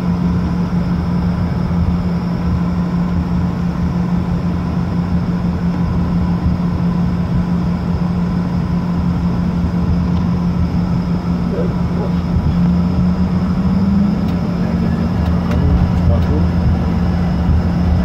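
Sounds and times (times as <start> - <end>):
airliner engines droning: 0.0 - 18.0.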